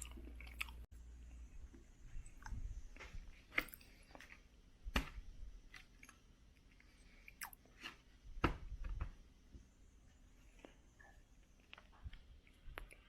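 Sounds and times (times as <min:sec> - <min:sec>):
person chewing food: 0:00.0 - 0:08.1, 0:10.4 - 0:13.0.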